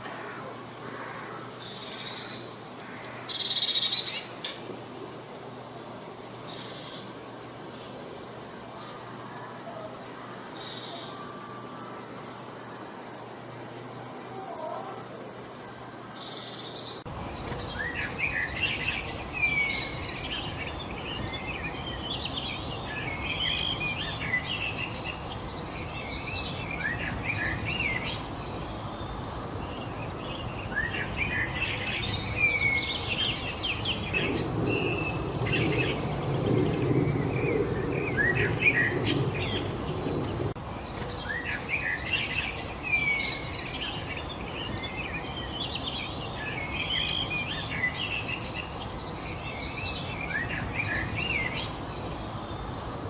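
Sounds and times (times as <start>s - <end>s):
songbirds chirping and singing: 0.0s - 4.6s, 5.5s - 53.0s
outdoor background hiss: 0.0s - 53.0s.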